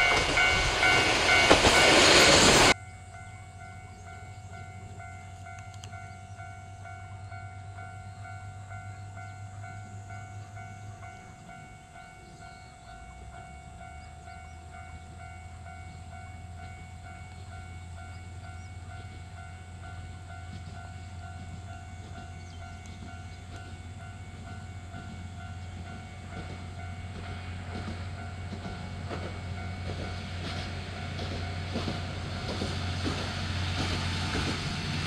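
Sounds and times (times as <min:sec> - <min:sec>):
railcar diesel engine drone: 0:00.0 - 0:35.0.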